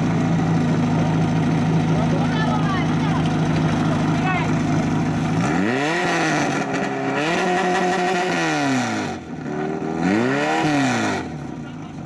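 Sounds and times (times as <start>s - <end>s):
pump engine revving: 0.0s - 11.6s.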